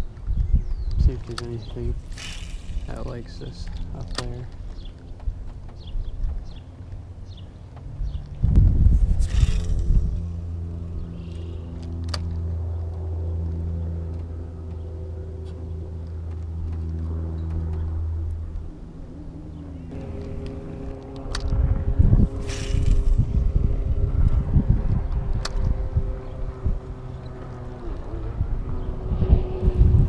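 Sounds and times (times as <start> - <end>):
electric trolling motor humming: 0.0 - 30.0
wind buffeting microphone: 0.0 - 30.0.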